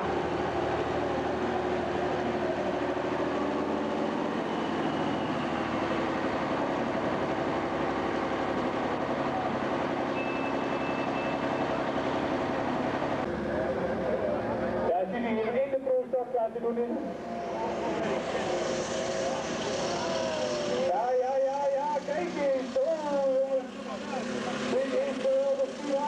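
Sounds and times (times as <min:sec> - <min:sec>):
tractor diesel engine running: 0:00.0 - 0:16.0, 0:17.0 - 0:26.0.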